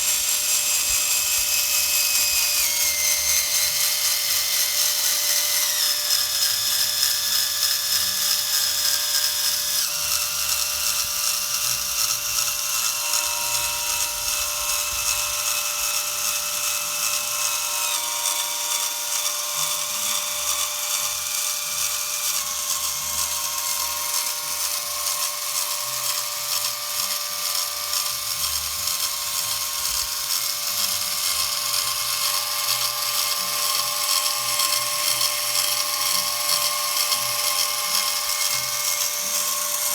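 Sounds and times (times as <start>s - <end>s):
electric drill whine: 0.0s - 39.9s.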